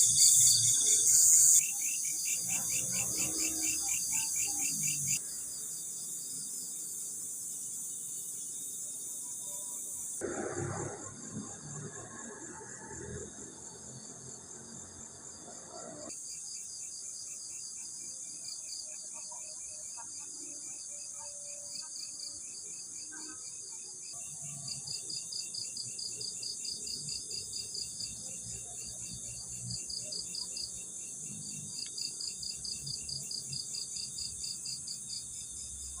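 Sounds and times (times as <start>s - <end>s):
crickets chirping: 0.0s - 36.0s
high-pitched insect hum: 0.0s - 36.0s.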